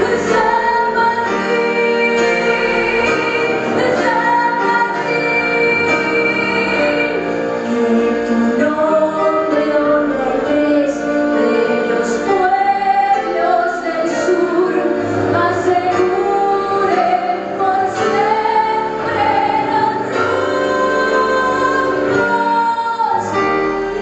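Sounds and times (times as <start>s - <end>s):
woman singing: 0.0s - 23.7s.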